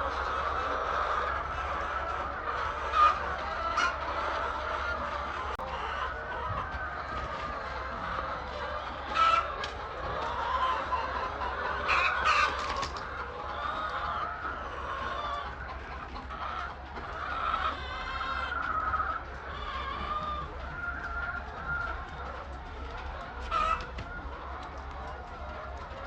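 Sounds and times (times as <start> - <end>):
chicken squawks: 0.0 - 26.0
chickens clucking: 0.0 - 26.0.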